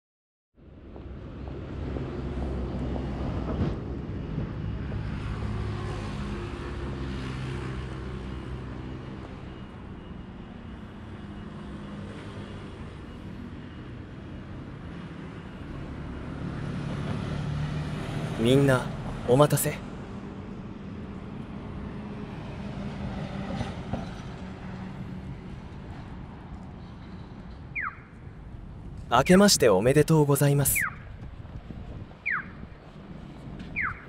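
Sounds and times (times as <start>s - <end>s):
traffic passing rumble: 0.6s - 34.0s.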